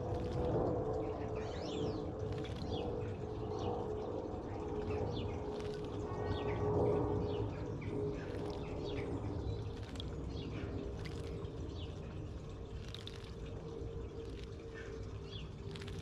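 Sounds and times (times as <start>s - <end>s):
faint hum: 0.0s - 16.0s
low background rumble: 0.0s - 16.0s
small birds chirping: 1.1s - 6.6s, 7.2s - 16.0s.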